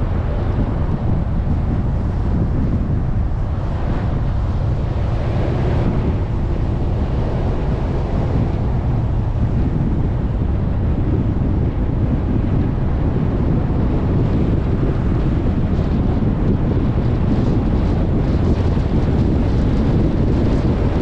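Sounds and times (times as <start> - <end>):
off-road vehicle engine drone: 0.0 - 21.0
wind buffeting microphone: 0.0 - 21.0.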